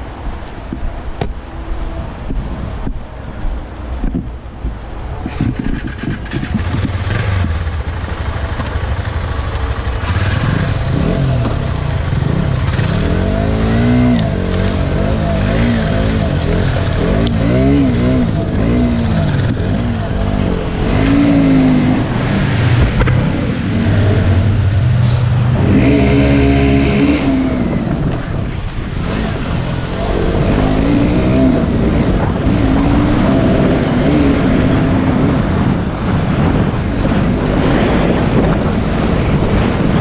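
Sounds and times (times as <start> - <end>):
motorcycle engines revving: 5.2 - 40.0.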